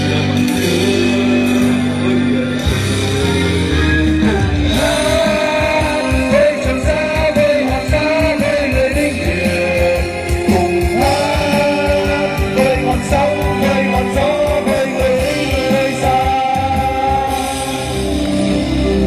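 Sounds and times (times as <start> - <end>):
male chorus singing: 0.0 - 18.1
backing band with steady beat: 0.0 - 19.0.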